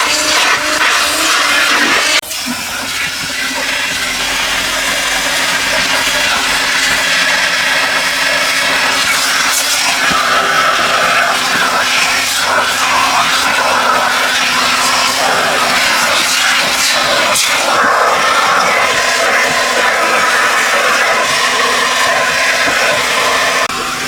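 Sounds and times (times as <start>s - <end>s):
machine motor running: 0.0s - 24.0s.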